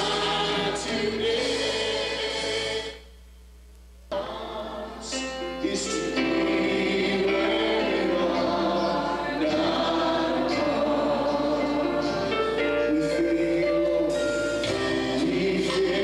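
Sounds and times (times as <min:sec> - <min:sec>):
congregation singing gospel song: 0:00.0 - 0:03.1, 0:04.1 - 0:16.0.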